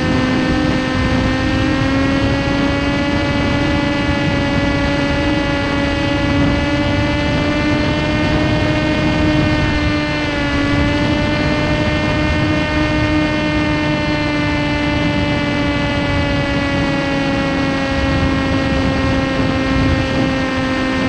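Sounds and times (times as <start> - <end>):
electric motor and propeller whine: 0.0 - 21.0
wind noise: 0.0 - 21.0.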